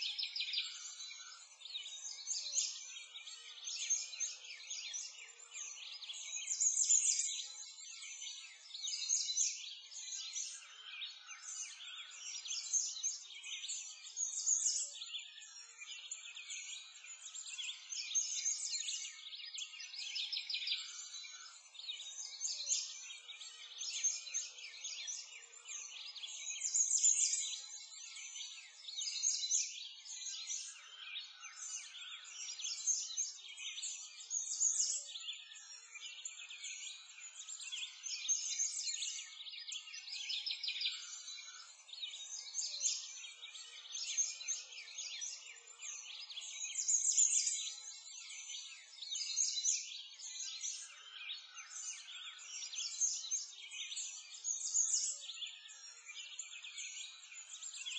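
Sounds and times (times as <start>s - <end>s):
birds chirping and singing: 0.0s - 57.9s.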